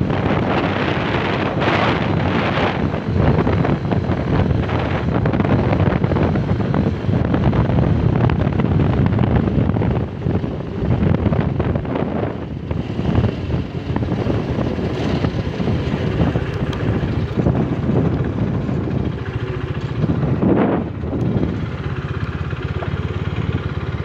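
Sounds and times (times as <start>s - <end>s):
motorcycle running: 0.0s - 24.0s
road noise: 0.0s - 24.0s
wind buffeting microphone: 0.0s - 24.0s.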